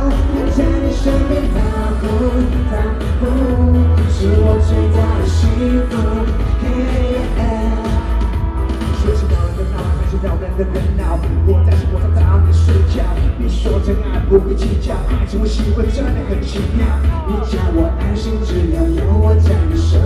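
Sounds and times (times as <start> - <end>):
backing track with heavy bass: 0.0 - 20.0
man singing: 0.0 - 20.0.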